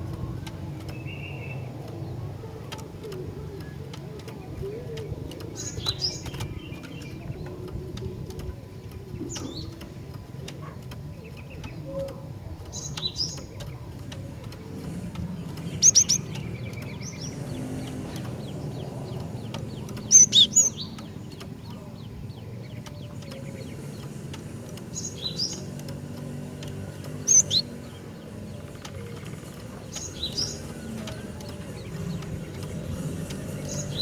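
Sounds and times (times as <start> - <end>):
bird chip calls: 0.8 - 7.6, 10.5 - 34.0.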